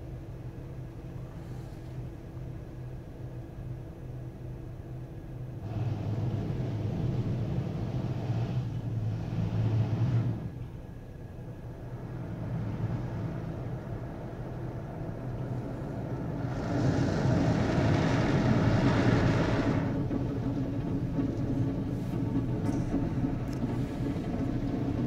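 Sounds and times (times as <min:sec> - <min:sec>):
low hum inside car: 0:00.0 - 0:25.0.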